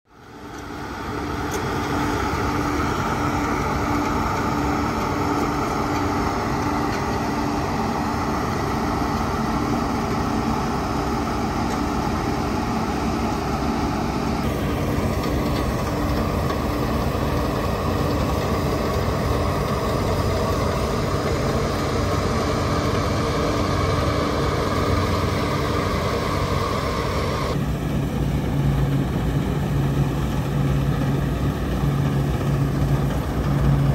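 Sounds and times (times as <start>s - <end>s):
combine harvesters running: 0.1s - 33.9s.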